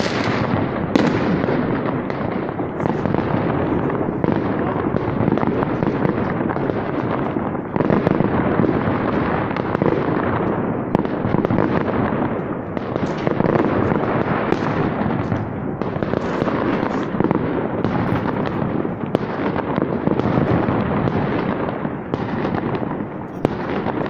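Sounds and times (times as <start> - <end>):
fireworks bangs and crackling: 0.0 - 24.0
sharp firecracker cracks: 0.0 - 24.0.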